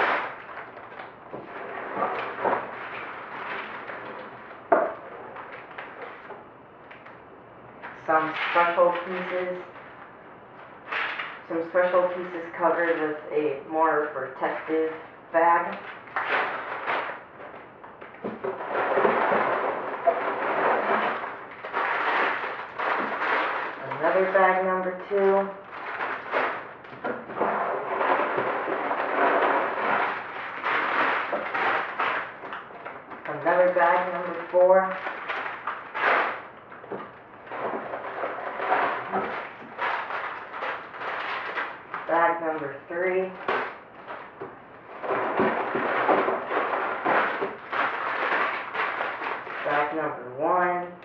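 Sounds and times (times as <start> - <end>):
plastic bags crinkling: 0.0 - 13.3, 14.4 - 50.0.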